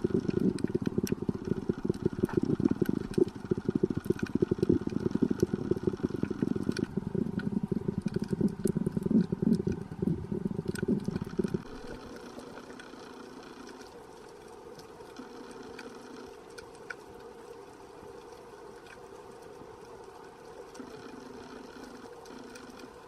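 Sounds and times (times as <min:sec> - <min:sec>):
underwater boat engine drone: 0:00.0 - 0:23.0.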